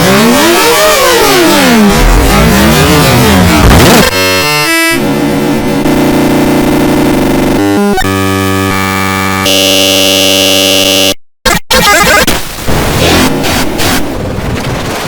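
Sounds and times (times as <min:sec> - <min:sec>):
distorted electronic buzzy chords: 0:00.0 - 0:14.5.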